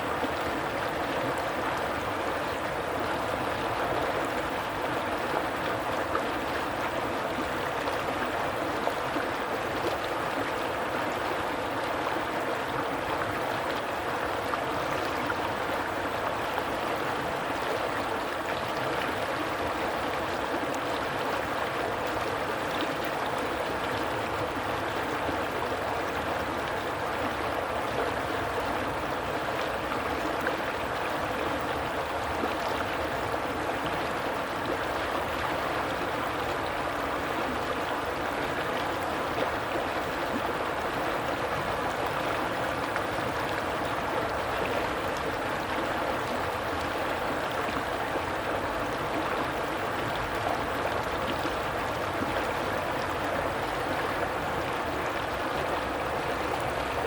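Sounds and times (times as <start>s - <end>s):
stream of water flowing: 0.0s - 57.0s.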